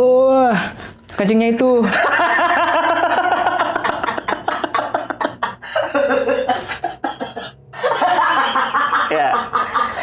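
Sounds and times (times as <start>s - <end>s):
men laughing: 1.9s - 10.0s.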